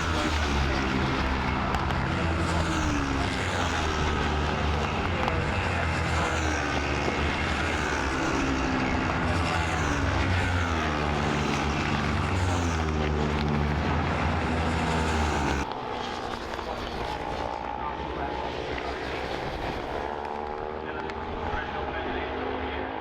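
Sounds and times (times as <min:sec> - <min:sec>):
racing motorcycle engines: 0:00.0 - 0:23.0.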